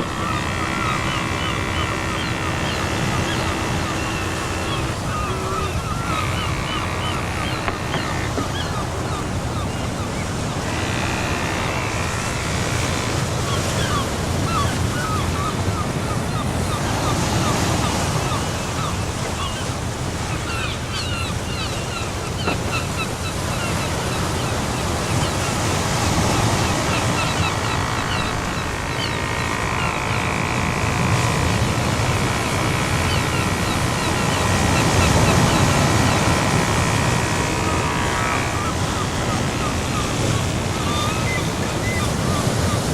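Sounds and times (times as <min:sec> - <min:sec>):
small electric motor whine: 0:00.0 - 0:42.9.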